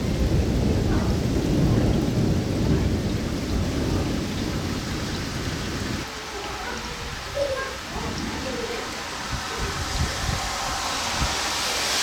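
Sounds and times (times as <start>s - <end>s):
thunder rumbling: 0.0s - 6.1s, 7.0s - 12.0s
steady rain: 0.0s - 12.0s.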